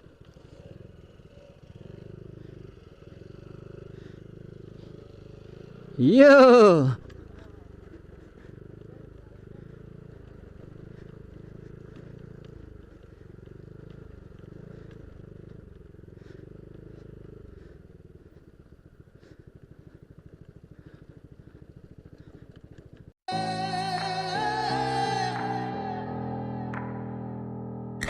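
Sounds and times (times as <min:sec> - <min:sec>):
scooter engine idling: 0:00.0 - 0:26.7.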